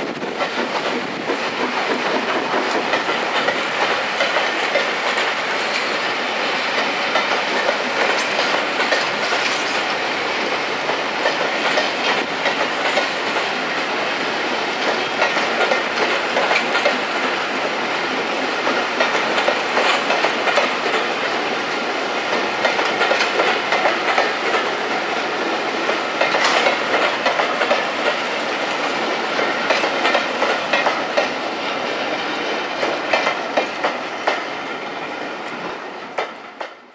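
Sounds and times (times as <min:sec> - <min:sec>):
train wheels clacking over rail joints: 0:00.0 - 0:36.8.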